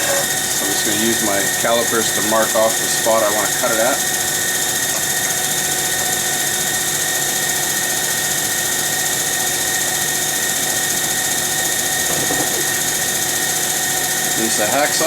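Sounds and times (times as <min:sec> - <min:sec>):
lathe motor hum with whine: 0:00.0 - 0:15.0.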